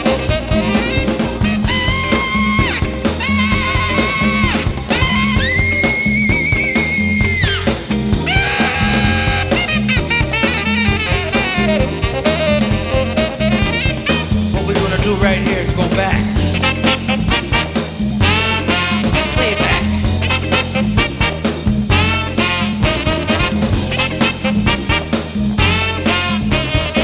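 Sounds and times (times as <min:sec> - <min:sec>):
acid jazz band music: 0:00.0 - 0:27.0
drum kit beat: 0:00.0 - 0:27.0.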